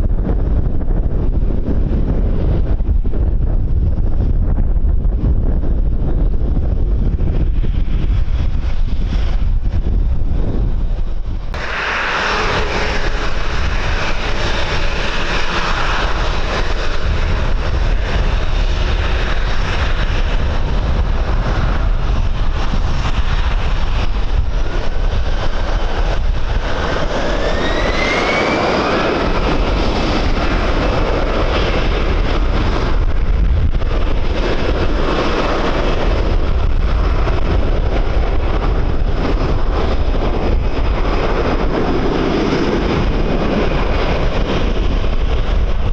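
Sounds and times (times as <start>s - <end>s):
airliner engines running: 0.0s - 45.9s
wind buffeting microphone: 0.0s - 45.9s.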